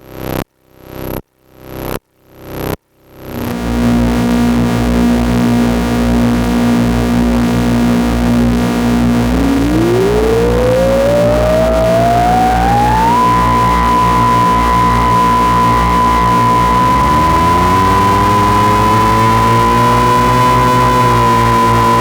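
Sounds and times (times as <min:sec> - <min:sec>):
buzzy synthesizer drone: 0:03.4 - 0:22.0
synthesizer tone sliding upward: 0:03.7 - 0:22.0.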